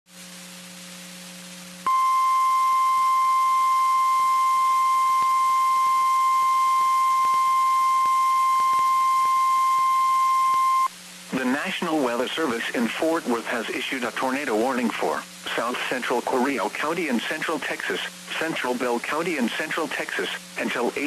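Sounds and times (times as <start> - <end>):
low hum and hiss: 0.1 - 21.0.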